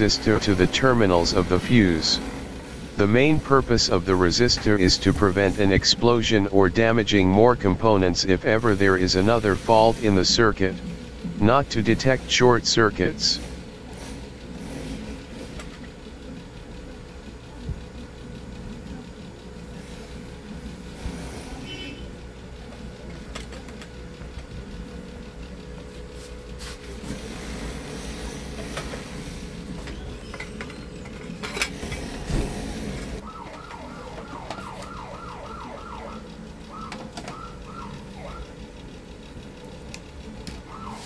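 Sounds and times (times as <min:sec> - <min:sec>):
steady hum: 0:00.0 - 0:41.0.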